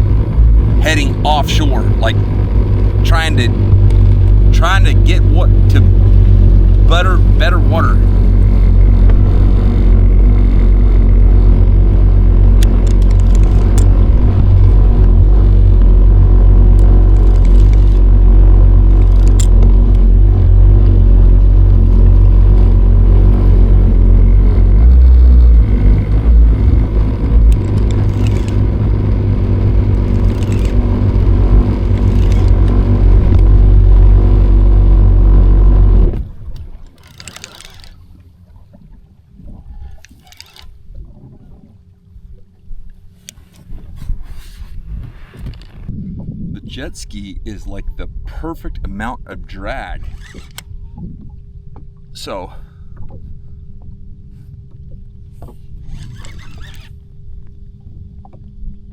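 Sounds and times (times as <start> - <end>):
jet ski engine running: 0.0 - 45.9, 49.9 - 58.9.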